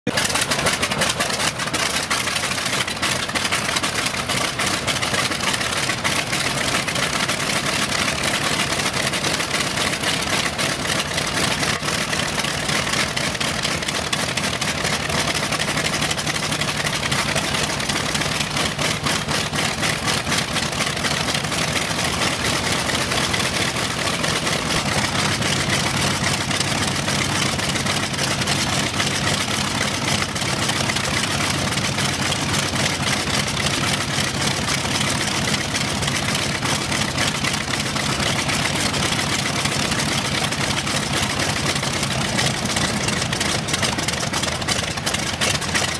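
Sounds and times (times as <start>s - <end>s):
radial piston engine idling: 0.1s - 45.9s.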